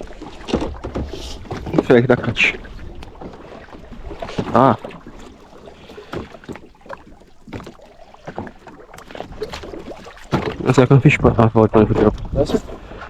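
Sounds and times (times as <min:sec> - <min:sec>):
gear knocking on a boat: 0:00.0 - 0:13.0.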